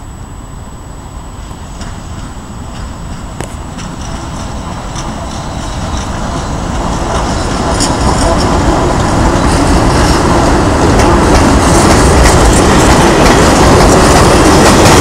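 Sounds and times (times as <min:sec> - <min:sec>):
electric locomotive running: 0:00.0 - 0:15.0.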